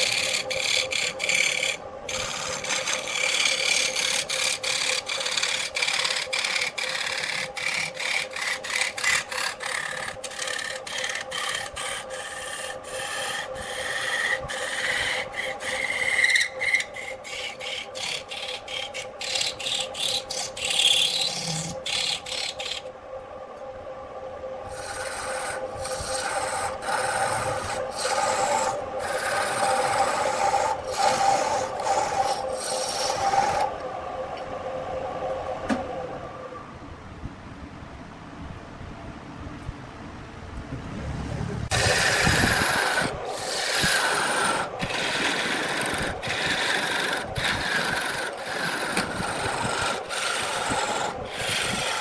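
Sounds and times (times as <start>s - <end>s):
lathe motor hum: 0.0s - 22.9s, 24.6s - 34.4s, 41.7s - 52.0s
tool scraping spinning wood: 0.0s - 22.9s, 24.7s - 33.8s, 41.7s - 52.0s.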